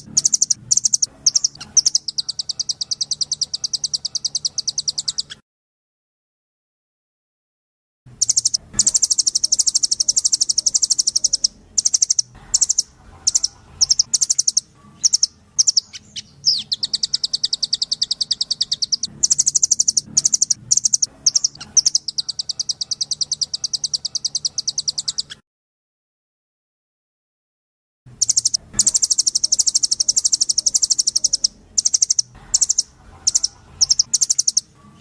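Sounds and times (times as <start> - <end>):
bird trilling: 0.0 - 5.4, 8.2 - 25.4, 28.1 - 35.0.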